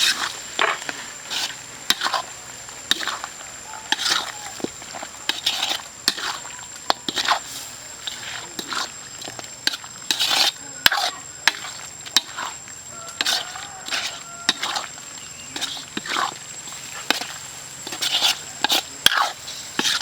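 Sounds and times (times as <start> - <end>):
utensil scraping in cooking pot: 0.0 - 20.0.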